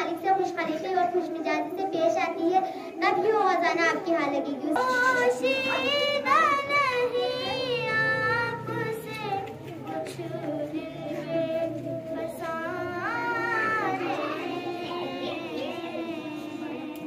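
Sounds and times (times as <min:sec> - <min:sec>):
girl singing into a microphone: 0:00.0 - 0:17.0.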